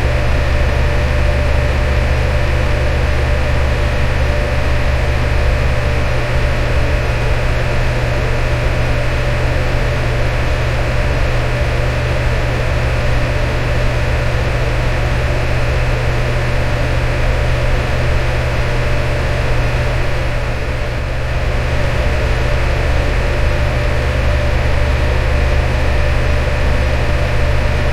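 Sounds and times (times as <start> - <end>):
electric fan running: 0.0 - 27.9.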